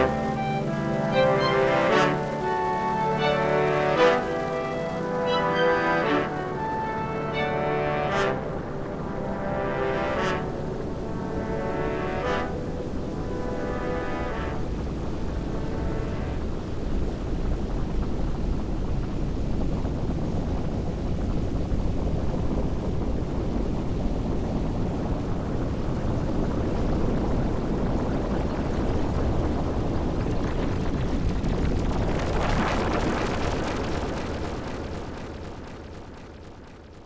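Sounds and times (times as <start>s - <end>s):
low rumbling noise drone: 0.0s - 37.0s.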